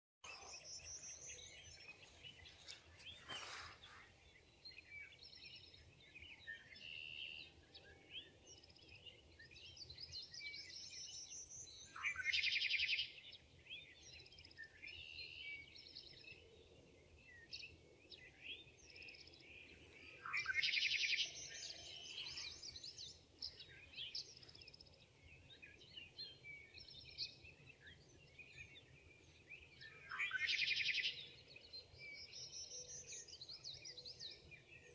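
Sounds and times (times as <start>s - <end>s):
songbirds singing and chirping: 0.2s - 34.9s.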